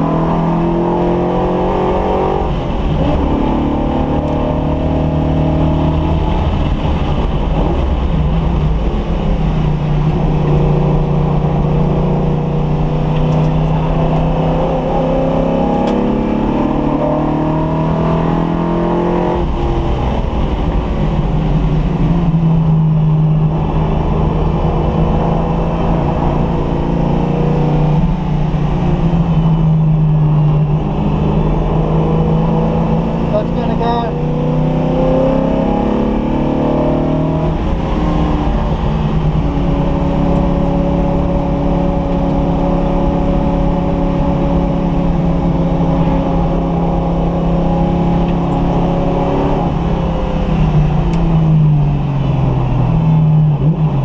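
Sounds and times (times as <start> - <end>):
car engine revving through gears: 0.0 - 54.0.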